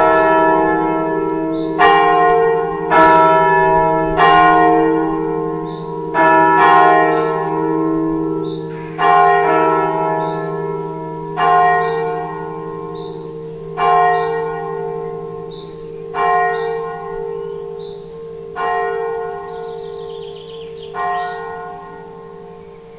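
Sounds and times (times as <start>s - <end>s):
church bells tolling: 0.0s - 22.9s.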